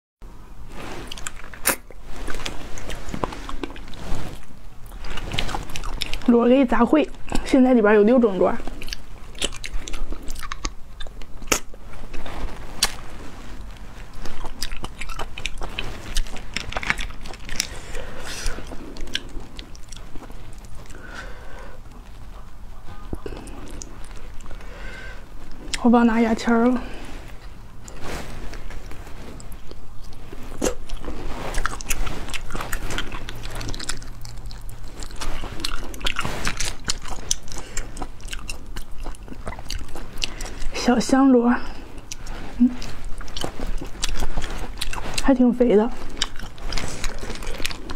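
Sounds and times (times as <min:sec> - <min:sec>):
sucking and chewing: 0:00.5 - 0:47.9.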